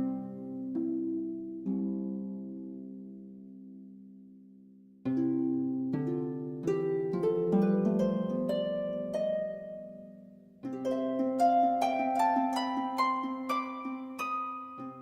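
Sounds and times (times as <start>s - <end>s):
plucked harp-like music: 0.0s - 4.4s, 5.0s - 15.0s.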